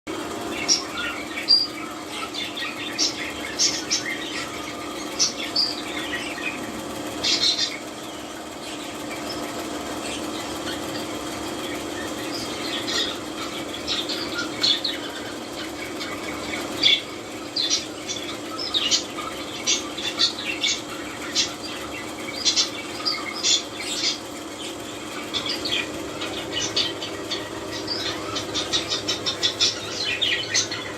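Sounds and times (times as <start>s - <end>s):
steady low hum: 0.1s - 30.9s
budgerigar chicks squeaking: 0.4s - 30.9s.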